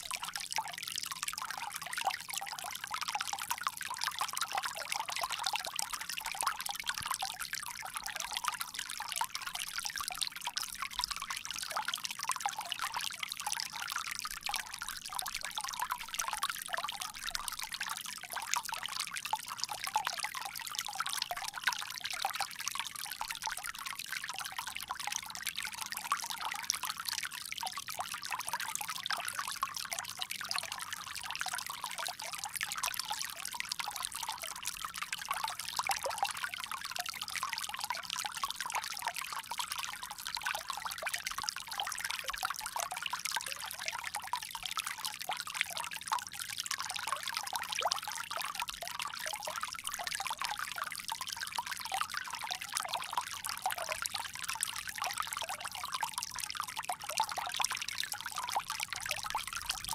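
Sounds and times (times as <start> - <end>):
water trickling from spout: 0.0 - 59.9.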